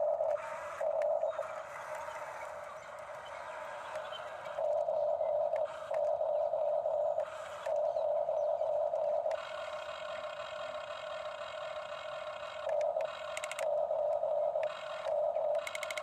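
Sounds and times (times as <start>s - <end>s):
toy electric motors whining: 0.0s - 16.0s.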